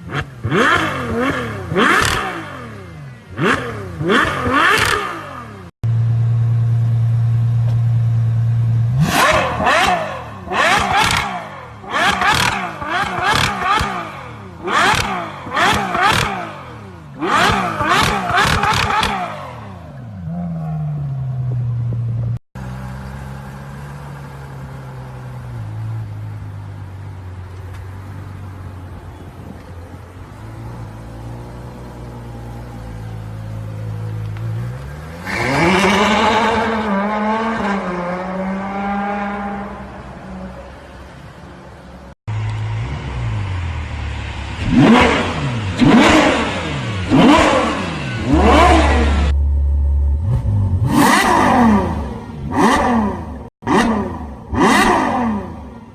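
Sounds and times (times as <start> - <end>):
car engine revving: 0.0 - 26.2, 30.4 - 40.0, 42.3 - 55.8.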